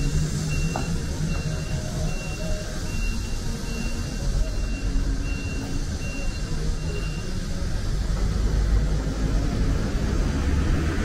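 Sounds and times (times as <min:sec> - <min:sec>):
road traffic rumble: 0:00.0 - 0:11.0
vehicle approaching: 0:00.0 - 0:11.0.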